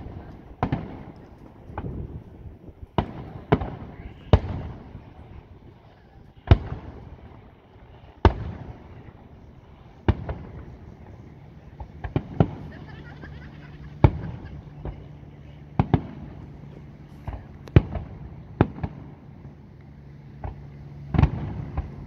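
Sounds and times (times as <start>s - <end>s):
fireworks bursting with echoing bangs: 0.0s - 15.1s, 15.7s - 19.6s, 20.4s - 22.0s.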